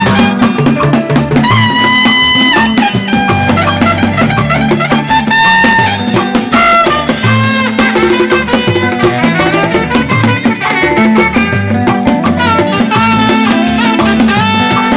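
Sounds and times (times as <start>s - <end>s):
live band playing: 0.0s - 14.9s.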